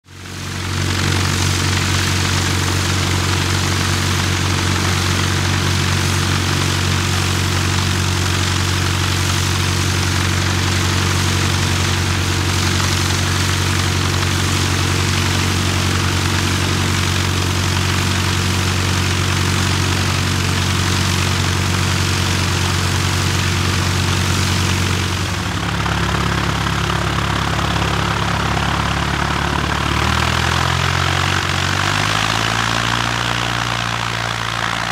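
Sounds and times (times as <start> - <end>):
aircraft engine and propeller running: 0.0 - 34.9.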